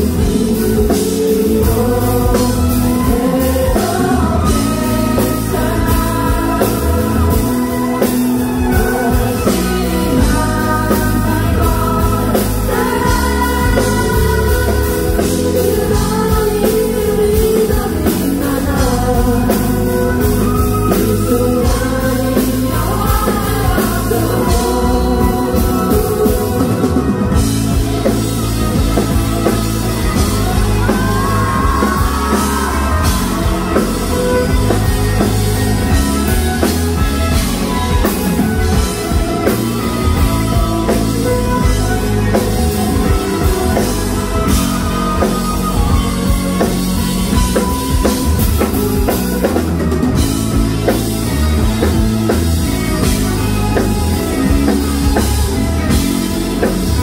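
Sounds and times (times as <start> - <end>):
person singing: 0.0 - 52.0
rock band playing live: 0.0 - 57.0.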